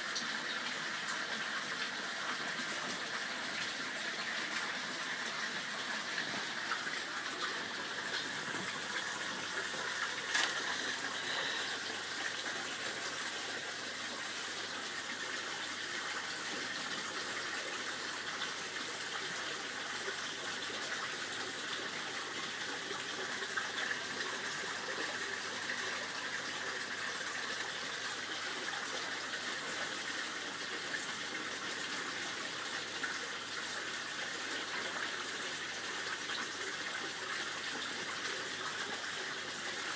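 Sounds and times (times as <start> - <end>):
water pouring into pond: 0.0 - 39.9.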